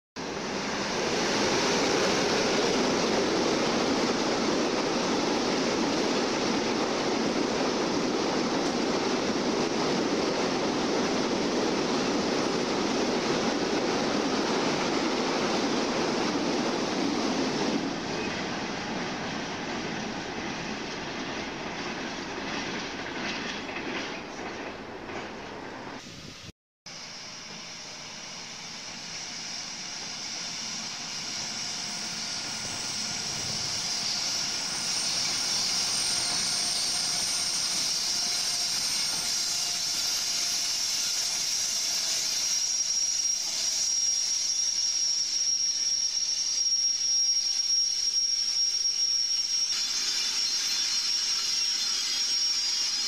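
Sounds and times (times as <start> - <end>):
train wheels rumbling on rails: 0.2 - 26.5, 27.3 - 53.0.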